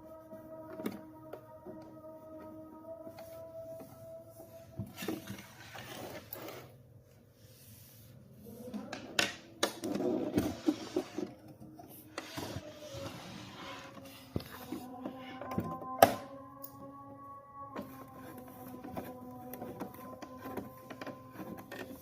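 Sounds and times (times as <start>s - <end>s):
soft background music: 0.0s - 6.8s, 7.6s - 22.0s.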